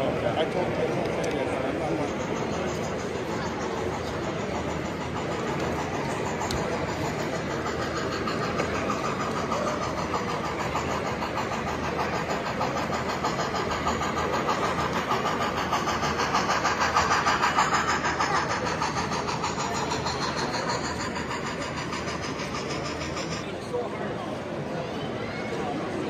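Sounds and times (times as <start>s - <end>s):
model train running: 0.0s - 26.0s.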